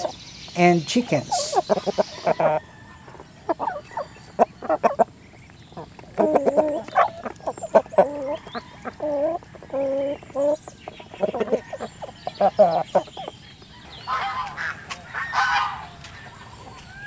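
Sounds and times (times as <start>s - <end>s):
drawn-out clucking: 1.2s - 16.8s.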